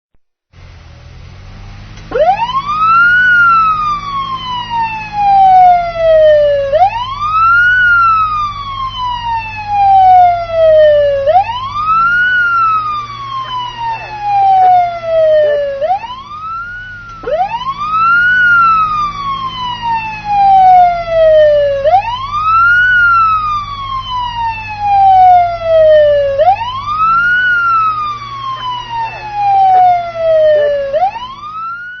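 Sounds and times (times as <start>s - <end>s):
low steady hum: 0.6s - 31.9s
police siren wailing: 2.0s - 32.0s.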